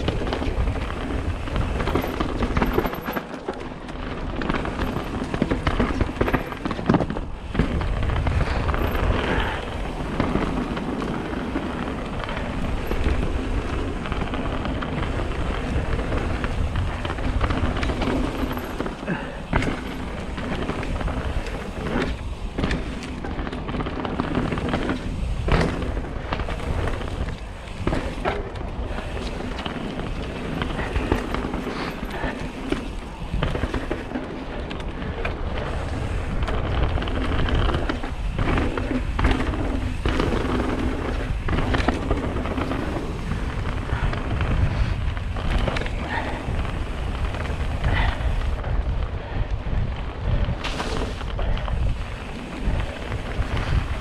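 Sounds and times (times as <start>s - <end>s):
bike rattling over bumps: 0.0s - 54.0s
bike tyres crunching over gravel: 0.0s - 54.0s
wind buffeting microphone: 0.0s - 54.0s.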